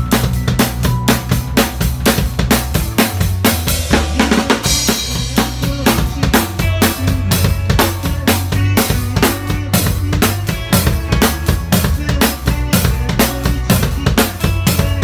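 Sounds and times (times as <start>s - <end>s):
bass guitar: 0.0s - 15.0s
drum kit beat: 0.0s - 15.0s
keyboard: 0.0s - 15.0s
live band playing: 0.0s - 15.0s.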